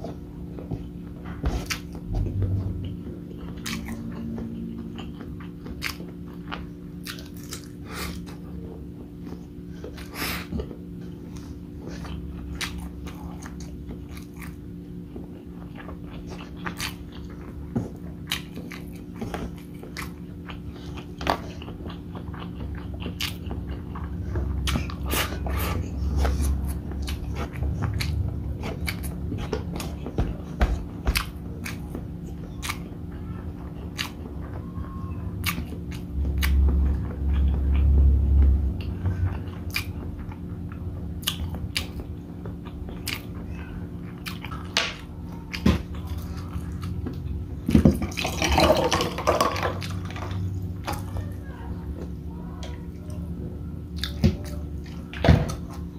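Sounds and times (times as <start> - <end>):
chewing and mouth clicks: 0.0 - 34.6, 35.4 - 48.3, 53.0 - 55.9
steady low hum: 0.0 - 55.9.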